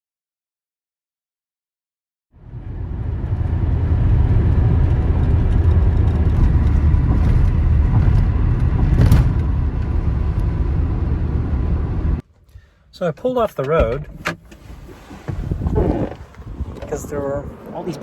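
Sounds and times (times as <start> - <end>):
van engine and road noise: 2.4 - 18.0.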